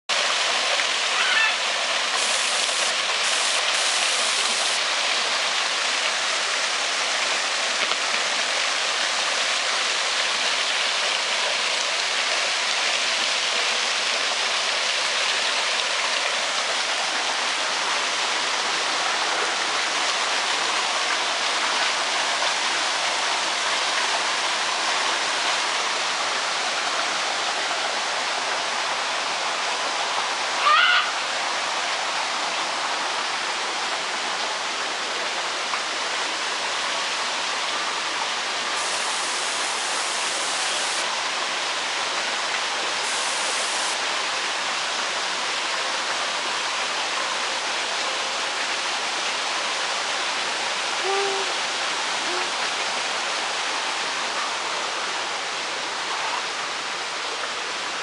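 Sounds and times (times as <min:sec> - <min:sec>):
waterfall splashing into pond: 0:00.1 - 0:58.0.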